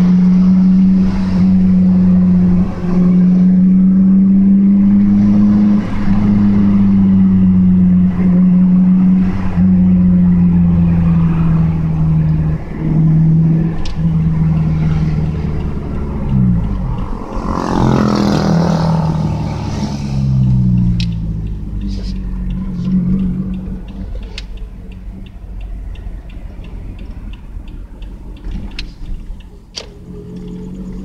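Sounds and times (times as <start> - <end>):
car engine exhaust note: 0.0 - 26.8.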